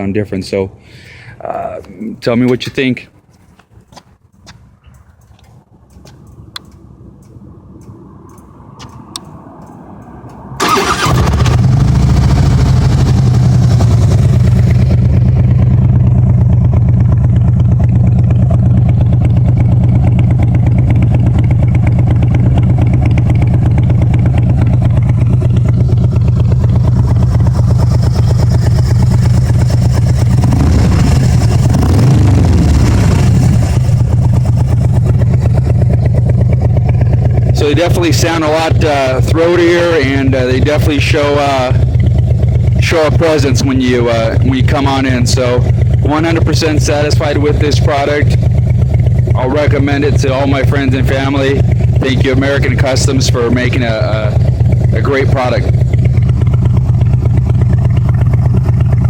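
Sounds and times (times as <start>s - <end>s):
motorcycle engine idling: 3.8s - 59.0s
motorcycle engine starting: 4.2s - 59.0s.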